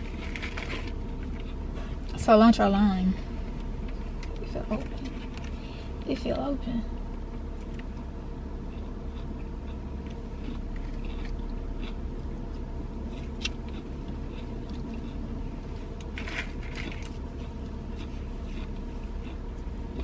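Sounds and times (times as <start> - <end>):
car cabin hum: 0.0 - 20.0.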